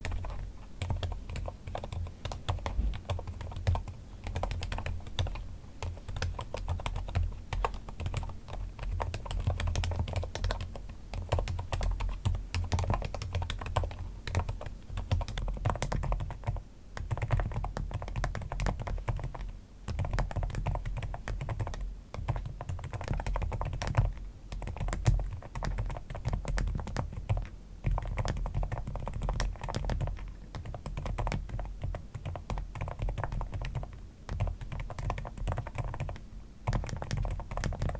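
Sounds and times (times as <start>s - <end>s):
fast mechanical keyboard typing: 0.0s - 37.9s.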